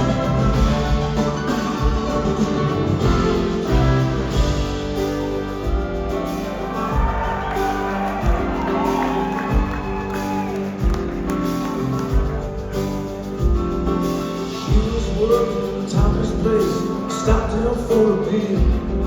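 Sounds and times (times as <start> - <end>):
gliding lead melody: 0.0 - 17.1
live rock band playing: 0.0 - 19.0.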